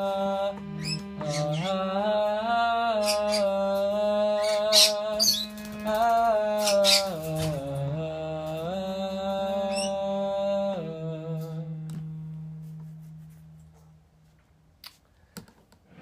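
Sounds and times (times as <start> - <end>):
harmonium playing slow melody: 0.0 - 14.1.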